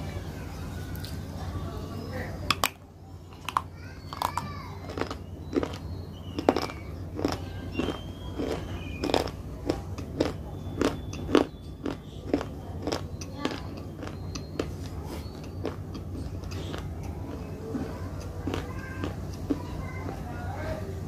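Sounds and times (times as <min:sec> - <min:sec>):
crunchy food chewing: 0:02.5 - 0:20.2.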